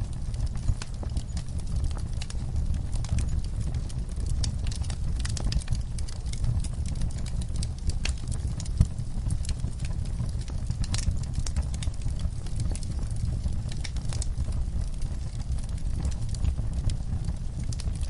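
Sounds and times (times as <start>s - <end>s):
low fire rumble: 0.0s - 18.0s
wood fire crackling and popping: 0.0s - 18.0s.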